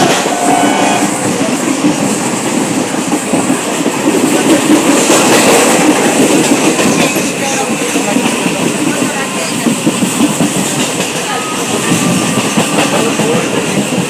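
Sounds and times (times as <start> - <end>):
train wheels running on rails: 0.0 - 14.0.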